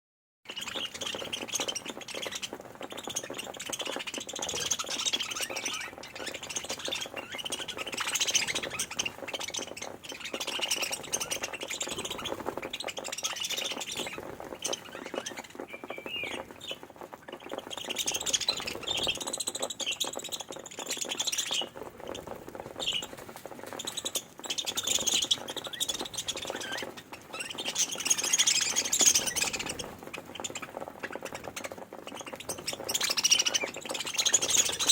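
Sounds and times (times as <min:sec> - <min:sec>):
budgerigars chirping: 0:00.5 - 0:23.1, 0:23.8 - 0:34.9.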